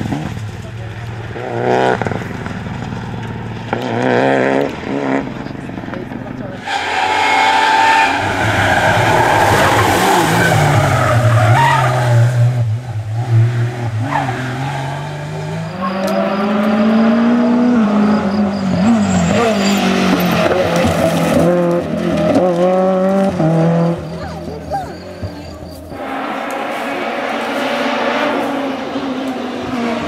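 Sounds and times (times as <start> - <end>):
rally car engines revving: 0.0 - 30.0
tyres skidding: 0.0 - 30.0.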